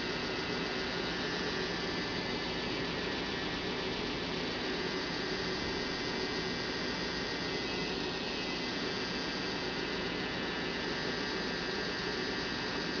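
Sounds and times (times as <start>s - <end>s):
tattoo machine motor humming: 0.0s - 13.0s.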